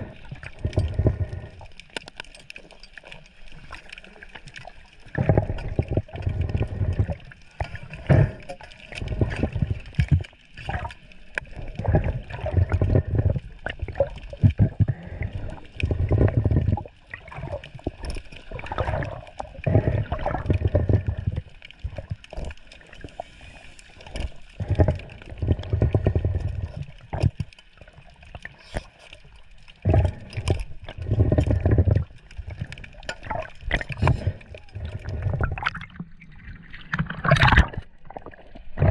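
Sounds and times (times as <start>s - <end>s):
sea water sloshing: 0.0s - 38.9s.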